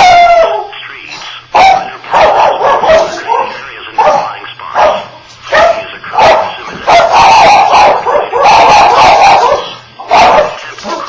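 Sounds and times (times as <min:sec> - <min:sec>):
dog barking: 0:01.5 - 0:11.0.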